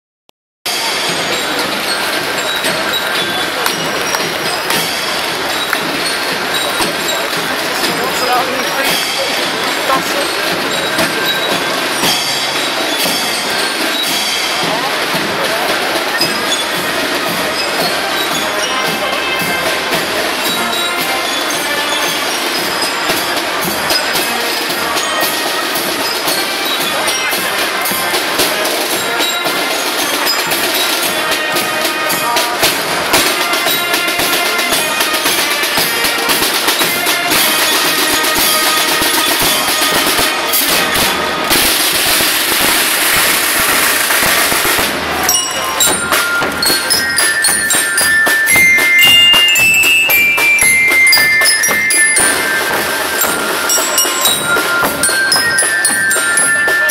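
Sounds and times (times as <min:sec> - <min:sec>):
saxophones and brass melody: 0:00.7 - 0:56.9
snare drums march beat: 0:00.7 - 0:56.9.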